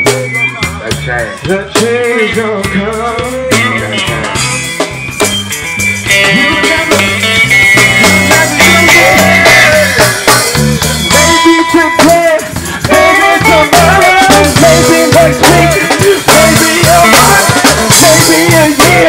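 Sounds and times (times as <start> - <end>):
man singing into a microphone: 0.0 - 4.4, 6.3 - 7.2, 7.9 - 19.0
rhythm and blues band music: 0.0 - 19.0.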